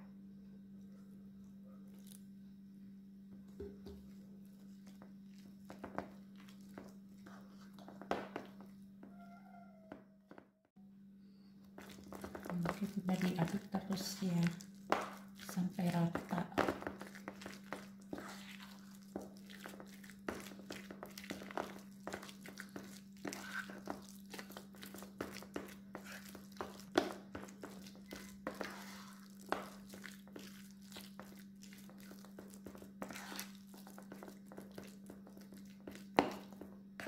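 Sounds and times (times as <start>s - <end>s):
batter squelching while stirred: 0.8s - 2.4s, 3.4s - 9.3s, 11.4s - 37.0s.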